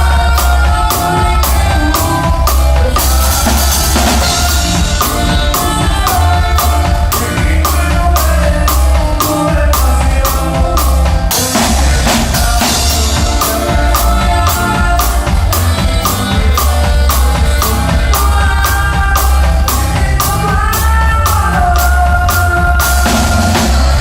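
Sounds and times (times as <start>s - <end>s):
band playing live: 0.0s - 24.0s
drum kit beat: 0.0s - 24.0s.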